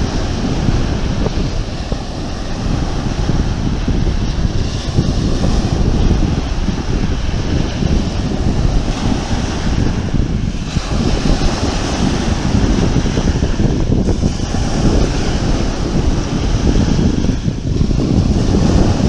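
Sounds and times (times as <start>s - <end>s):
sea waves breaking: 0.0s - 19.0s
wind buffeting microphone: 0.0s - 19.0s.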